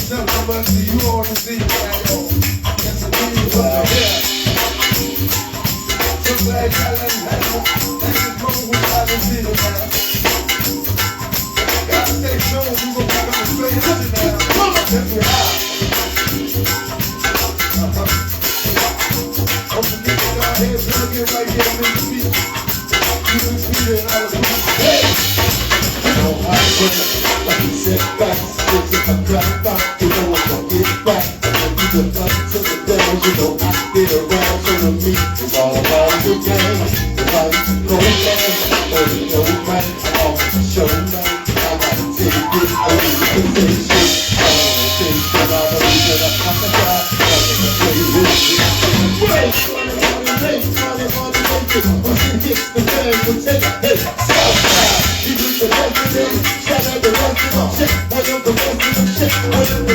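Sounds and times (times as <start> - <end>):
live band music: 0.0 - 59.9
person singing: 0.0 - 59.9
shaker rattling: 0.0 - 59.9.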